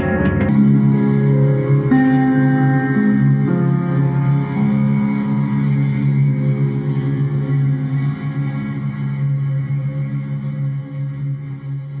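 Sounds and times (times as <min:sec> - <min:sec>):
drone music low tones: 0:00.0 - 0:12.0.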